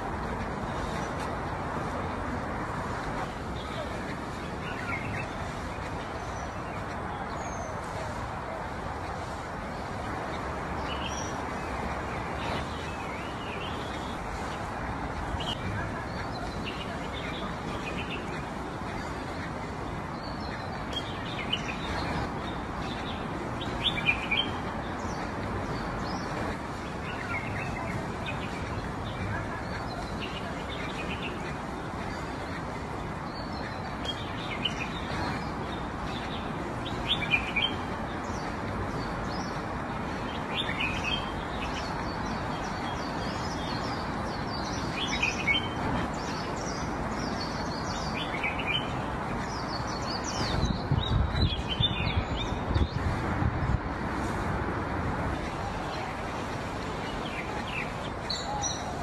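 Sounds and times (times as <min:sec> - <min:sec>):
small birds chirping: 0:00.0 - 0:59.0
steady outdoor hiss: 0:00.0 - 0:59.0.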